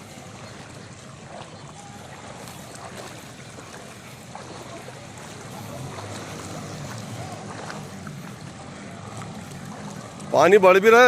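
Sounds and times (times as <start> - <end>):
floodwater splashing: 0.0 - 11.0.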